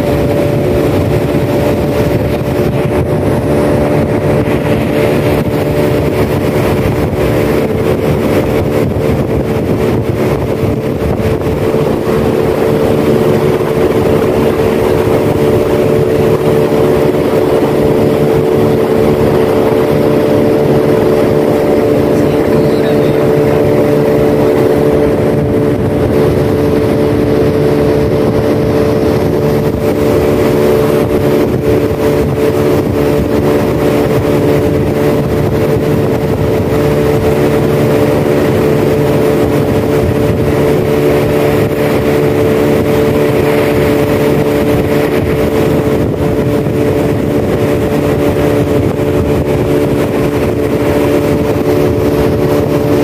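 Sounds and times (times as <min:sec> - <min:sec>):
boat motor humming: 0:00.0 - 0:53.0.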